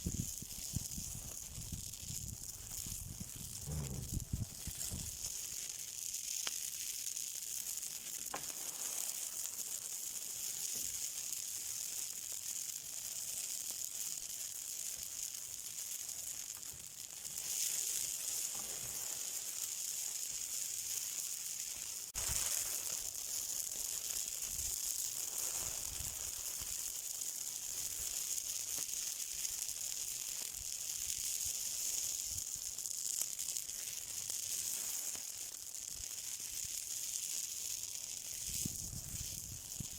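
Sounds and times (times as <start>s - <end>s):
fire crackles: 0.0s - 39.9s
fire hissing: 0.0s - 39.9s.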